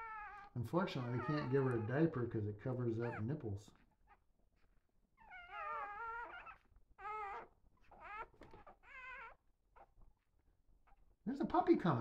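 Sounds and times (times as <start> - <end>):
puppies crying: 0.0 - 11.2.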